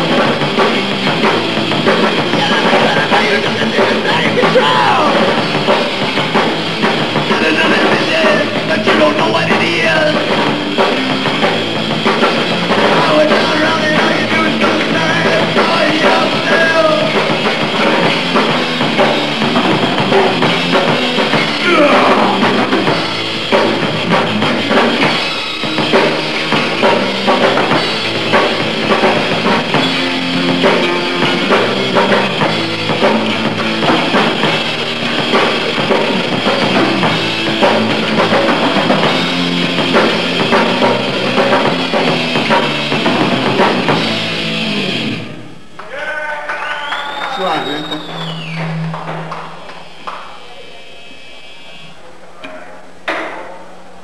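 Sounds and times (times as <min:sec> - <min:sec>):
pounding drum kit: 0:00.0 - 0:45.8, 0:46.8 - 0:50.0
loud electric guitar: 0:00.0 - 0:52.0.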